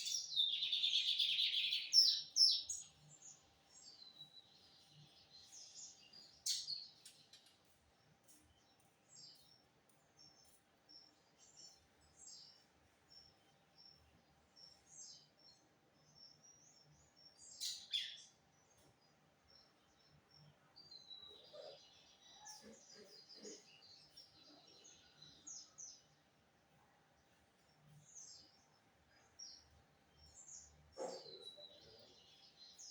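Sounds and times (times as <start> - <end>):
bird chirping and twittering: 0.0 - 26.3, 27.6 - 32.9.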